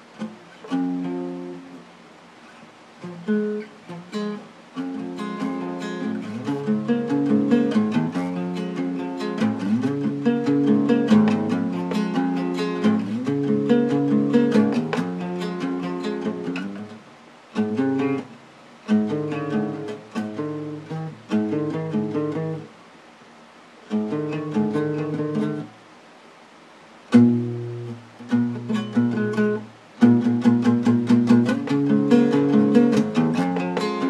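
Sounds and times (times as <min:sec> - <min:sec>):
guitar strumming chords: 0:00.0 - 0:22.8, 0:23.8 - 0:25.8, 0:27.1 - 0:34.0.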